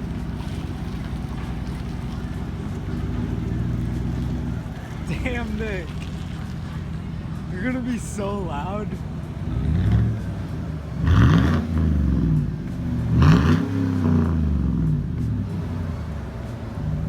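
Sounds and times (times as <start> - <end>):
engine revving from idle: 0.0 - 17.0.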